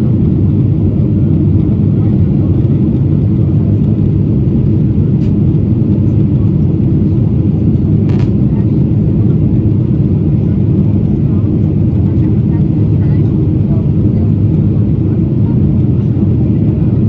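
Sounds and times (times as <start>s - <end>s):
airplane engine roar in flight: 0.0s - 17.0s.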